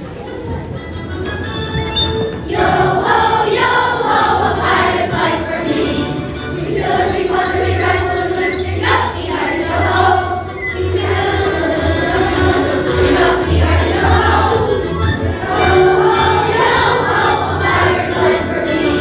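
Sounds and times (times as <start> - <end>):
instrumental backing track: 0.0 - 19.0
children singing: 2.4 - 19.0.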